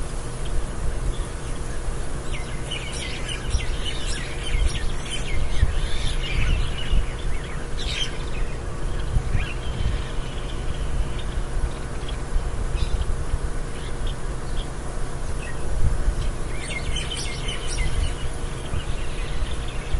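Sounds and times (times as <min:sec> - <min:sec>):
birds chirping and calling: 0:00.3 - 0:19.9.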